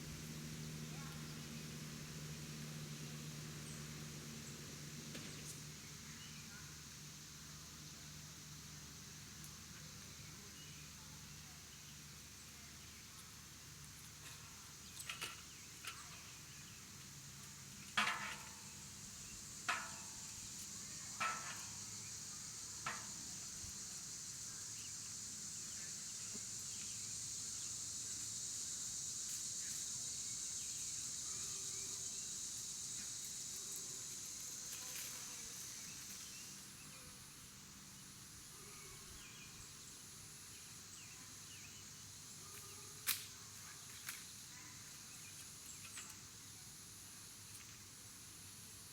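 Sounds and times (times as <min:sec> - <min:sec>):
insects buzzing drone: 0:00.0 - 0:48.9.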